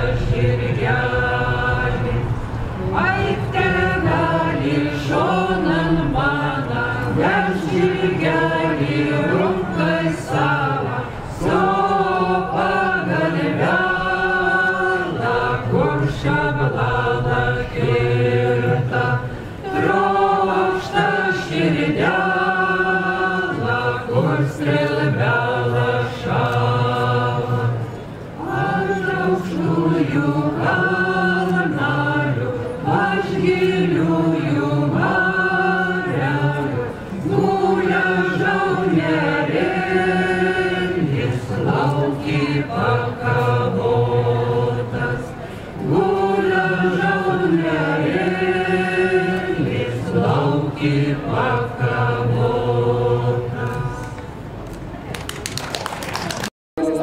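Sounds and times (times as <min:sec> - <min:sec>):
folk voices singing together: 0:00.0 - 0:54.6.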